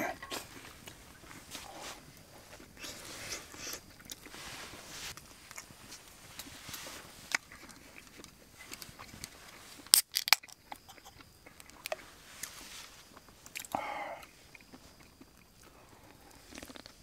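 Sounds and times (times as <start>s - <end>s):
person chewing and biting: 0.2s - 4.3s, 5.2s - 17.0s.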